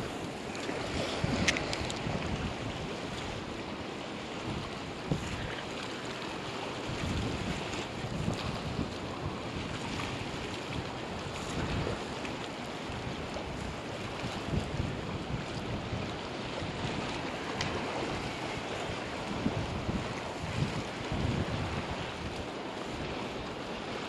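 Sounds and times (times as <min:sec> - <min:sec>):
wind gusting on microphone: 0:00.0 - 0:03.7, 0:04.3 - 0:05.8, 0:06.8 - 0:12.1, 0:12.9 - 0:23.4
ocean waves washing against pilings: 0:00.0 - 0:24.0.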